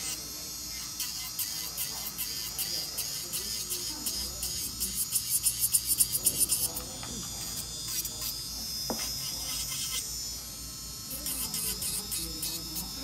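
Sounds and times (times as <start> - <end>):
electric nail drill whining: 0.0 - 13.0.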